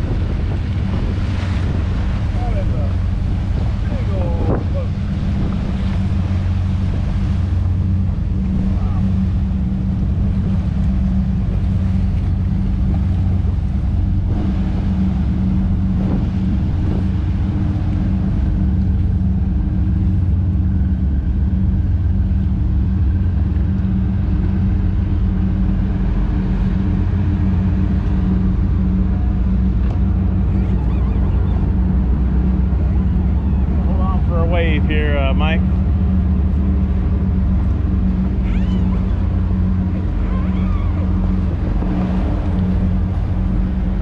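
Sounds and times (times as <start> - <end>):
boat engine running: 0.0 - 44.0
water wash: 0.0 - 44.0
wind: 0.0 - 44.0.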